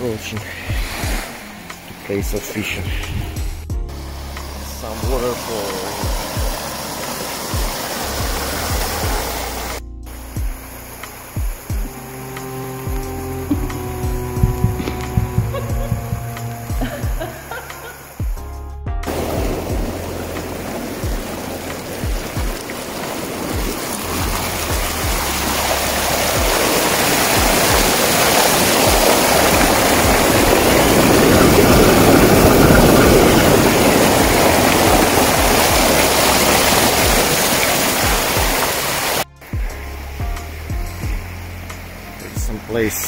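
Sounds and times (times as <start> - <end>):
background music with low beat: 0.0 - 37.4, 38.0 - 43.0
waterfall splashing over rocks: 4.0 - 43.0.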